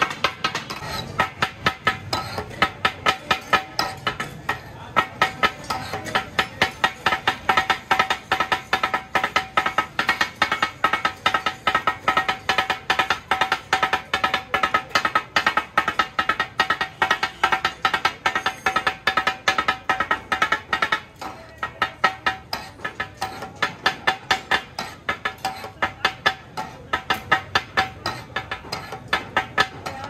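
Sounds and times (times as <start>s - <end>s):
steel blades clanging on griddle: 0.0s - 30.0s.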